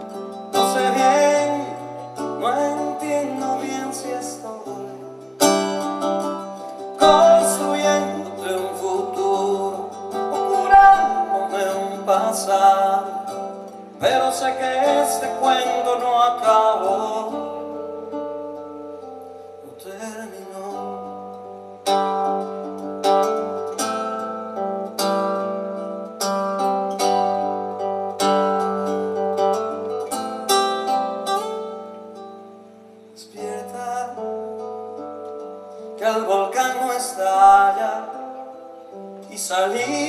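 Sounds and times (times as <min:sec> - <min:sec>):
acoustic guitar melody: 0:00.0 - 0:40.0.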